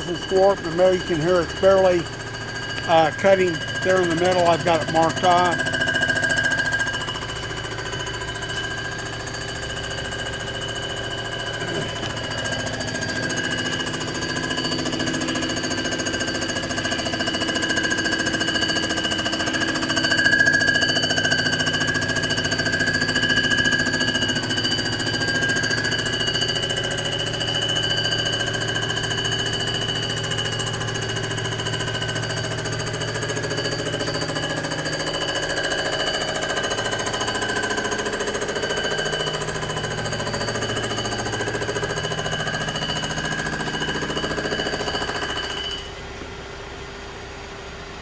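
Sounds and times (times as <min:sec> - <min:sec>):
surfacing machine cutter whine: 0:00.0 - 0:46.1.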